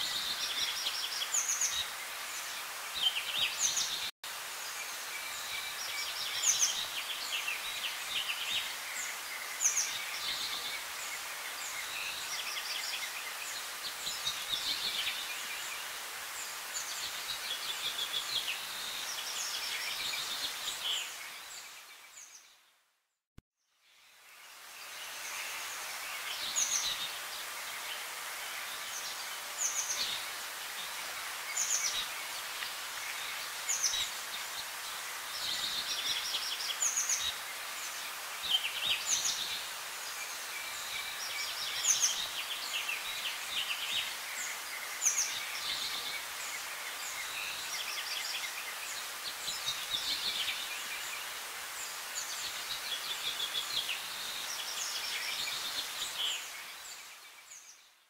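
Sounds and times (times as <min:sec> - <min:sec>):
steady background hiss: 0:00.0 - 0:22.5, 0:23.8 - 0:58.0.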